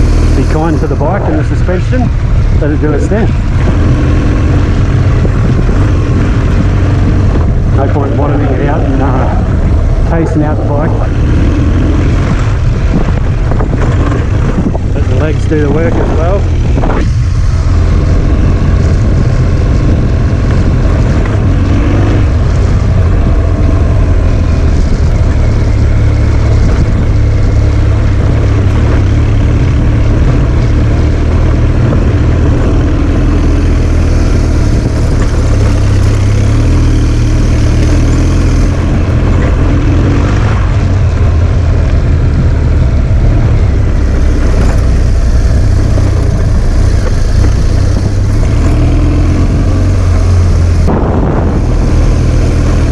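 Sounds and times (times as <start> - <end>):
motorcycle engine rumbling: 0.0 - 52.9.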